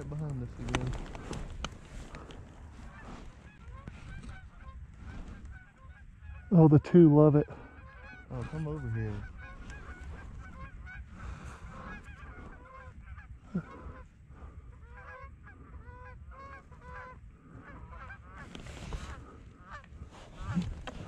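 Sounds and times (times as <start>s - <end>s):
geese honking: 2.1s - 21.0s.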